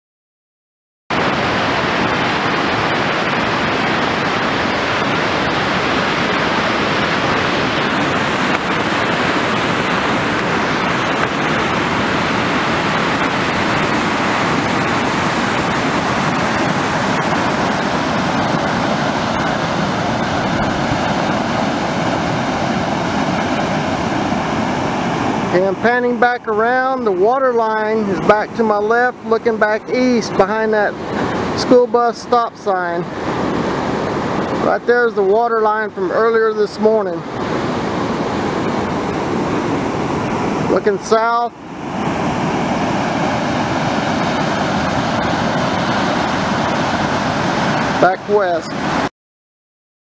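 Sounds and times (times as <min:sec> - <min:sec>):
floodwater rushing: 0:01.1 - 0:49.1.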